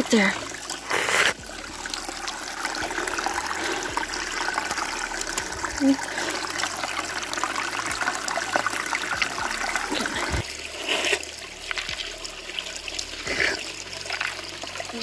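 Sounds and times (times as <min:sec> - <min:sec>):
water trickling over rocks: 0:00.0 - 0:15.0.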